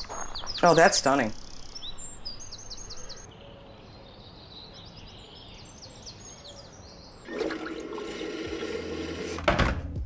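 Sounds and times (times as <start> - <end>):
birds chirping: 0.0 - 8.1.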